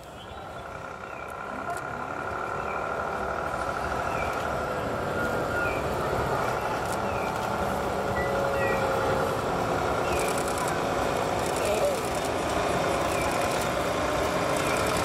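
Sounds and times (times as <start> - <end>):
vehicles passing slowly: 0.0 - 15.0.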